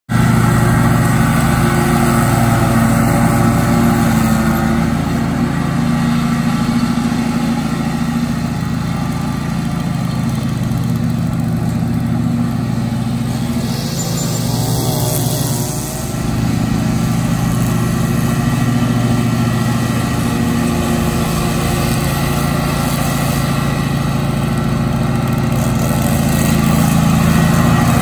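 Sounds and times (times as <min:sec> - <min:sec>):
lawn mower engine cutting grass: 0:00.1 - 0:28.0.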